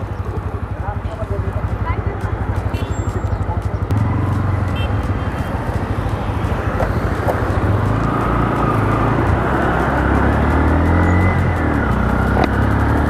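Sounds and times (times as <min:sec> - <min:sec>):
motorcycle engine accelerating: 0:00.0 - 0:13.0
surrounding traffic: 0:00.0 - 0:13.0.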